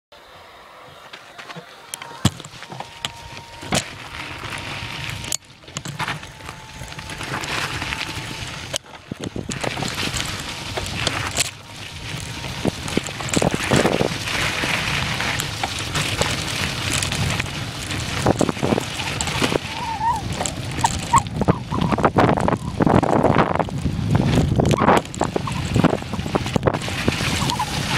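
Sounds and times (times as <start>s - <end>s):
tyre and wind rush: 0.2s - 27.9s
bike clunks and rattles: 1.1s - 27.9s.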